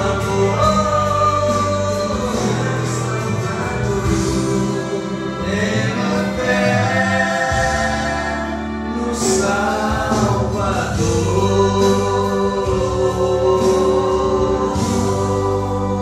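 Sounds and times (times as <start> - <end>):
instrumental backing: 0.0 - 16.0
men singing in harmony: 0.0 - 16.0.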